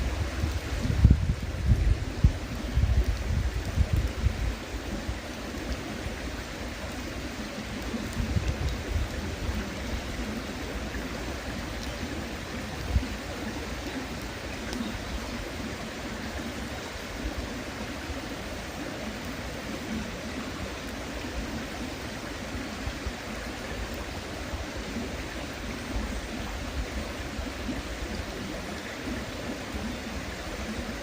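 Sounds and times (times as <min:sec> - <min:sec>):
river babbling: 0:00.0 - 0:31.0.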